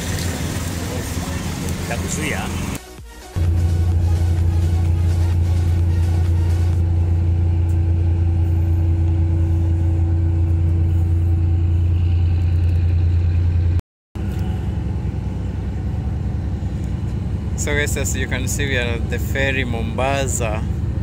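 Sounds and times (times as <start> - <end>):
held hum: 0.0 - 21.0
ship engines droning: 0.0 - 21.0.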